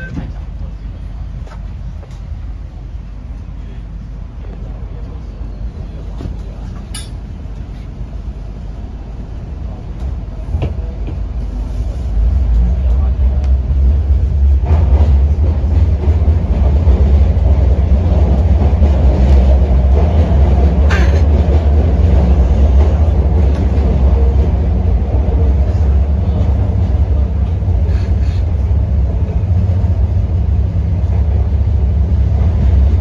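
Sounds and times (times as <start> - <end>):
train rumbling in tunnel: 0.0 - 33.0.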